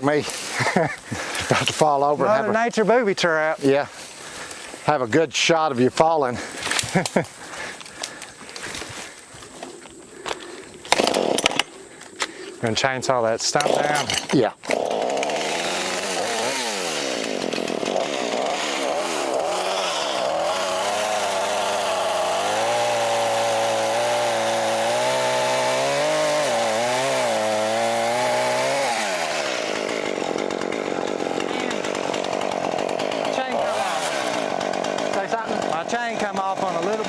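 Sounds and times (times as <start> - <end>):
chainsaw cutting: 0.0 - 12.4, 13.1 - 37.0.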